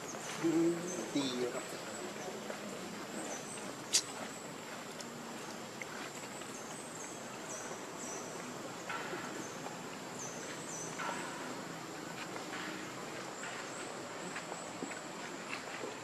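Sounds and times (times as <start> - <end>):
high insect drone: 0.0 - 15.7.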